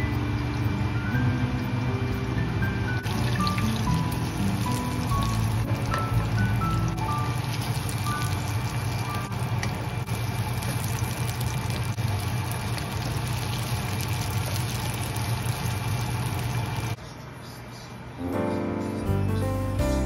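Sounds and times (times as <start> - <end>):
machine humming and hissing: 0.0 - 17.0.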